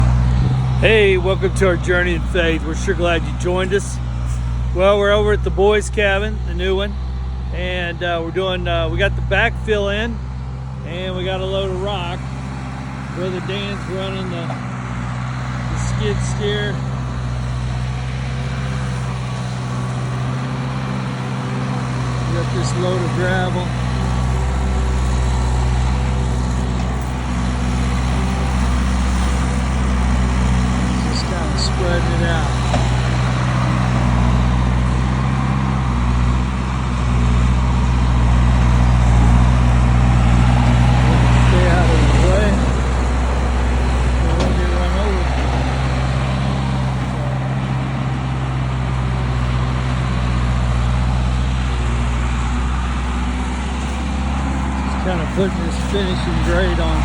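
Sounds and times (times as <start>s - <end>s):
skid steer engine running: 0.0s - 57.0s.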